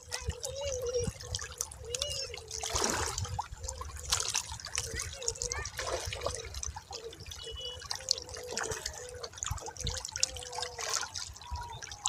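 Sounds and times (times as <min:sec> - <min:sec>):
water drips and gurgles: 0:00.0 - 0:12.0
water trickling and bubbling: 0:00.0 - 0:12.0.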